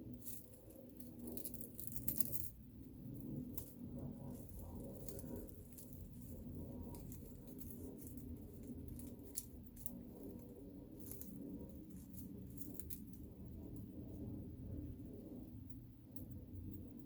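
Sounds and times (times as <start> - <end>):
crisp clicks and crinkles of paper: 0.0 - 13.9
low steady hum: 0.0 - 17.0.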